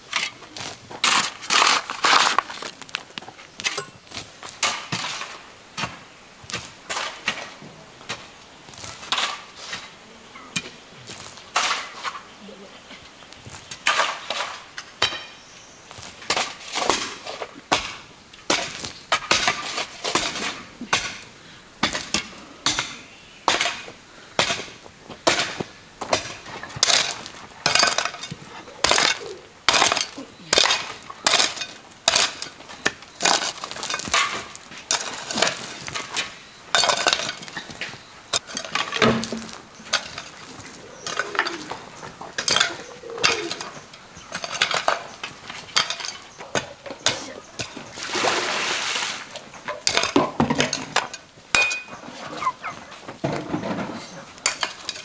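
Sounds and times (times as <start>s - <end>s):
hoe chopping stony soil: 0.0s - 9.9s, 10.6s - 12.2s, 13.4s - 55.0s.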